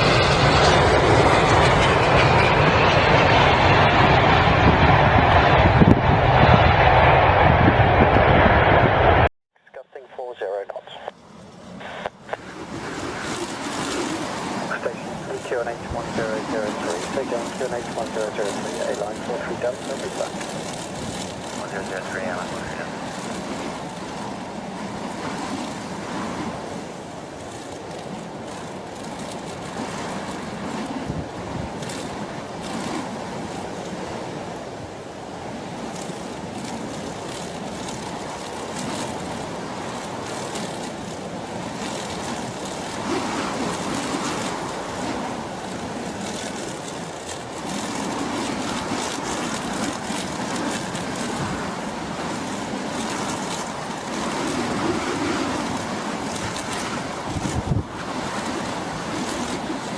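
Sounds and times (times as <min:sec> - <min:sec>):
airliner engines rushing: 0:00.0 - 0:59.9.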